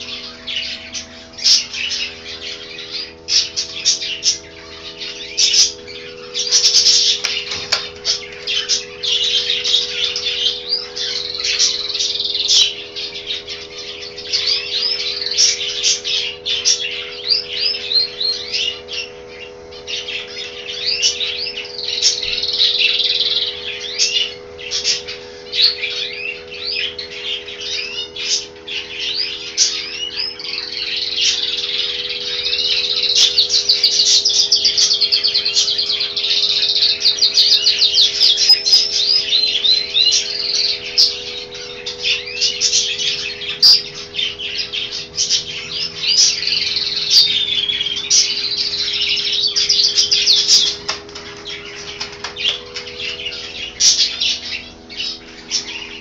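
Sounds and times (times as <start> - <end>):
finches chirping and twittering: 0.0 - 56.0.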